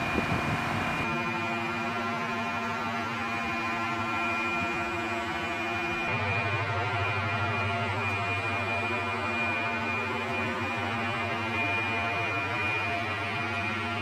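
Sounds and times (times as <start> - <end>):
machine drone with whine: 0.0 - 14.0.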